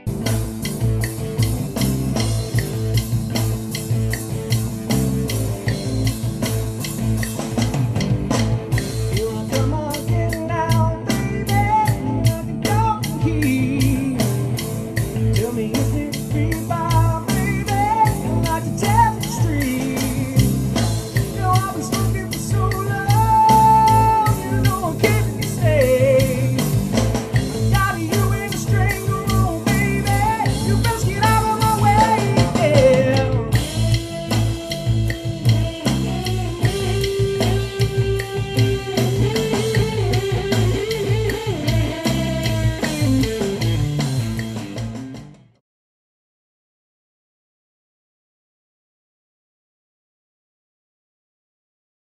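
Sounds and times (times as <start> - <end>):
band playing with bass and drums: 0.0 - 45.6.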